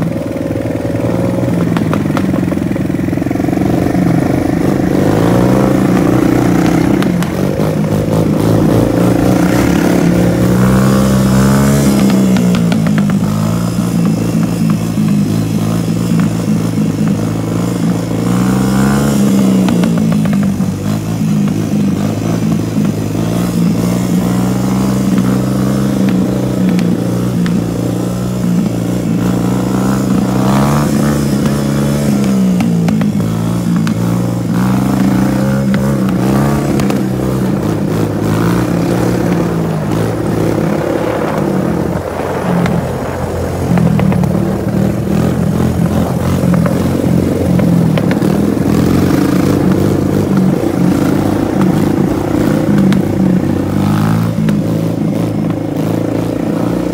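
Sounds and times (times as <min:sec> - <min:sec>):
quad bike engine revving: 0:00.0 - 0:56.9.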